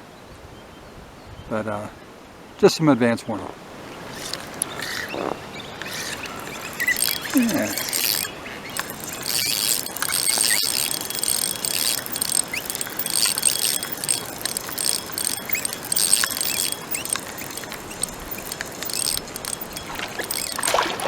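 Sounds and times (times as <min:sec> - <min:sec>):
fishing reel clicking and whirring: 0:04.0 - 0:21.0.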